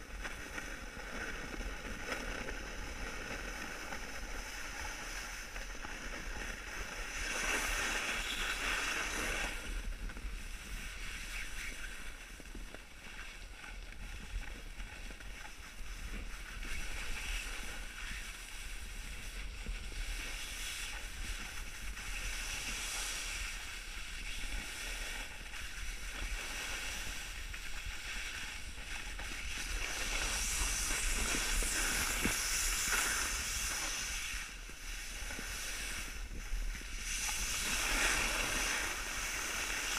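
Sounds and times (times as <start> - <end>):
skis scraping on snow: 0.0 - 39.9
wind on microphone: 0.0 - 39.9.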